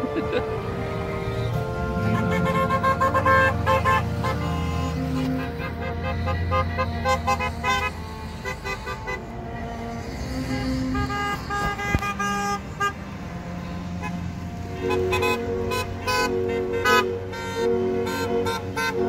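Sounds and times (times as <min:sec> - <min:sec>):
car horns honking: 0:00.0 - 0:09.7, 0:10.4 - 0:19.0
cars passing: 0:00.0 - 0:19.0.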